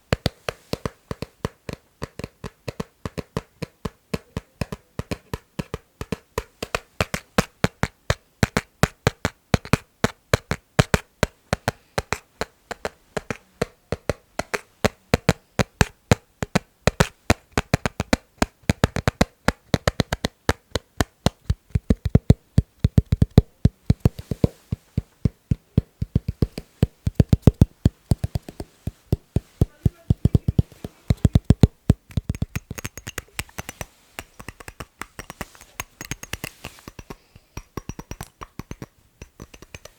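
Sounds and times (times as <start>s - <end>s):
fingers tapping on object: 0.0s - 39.9s.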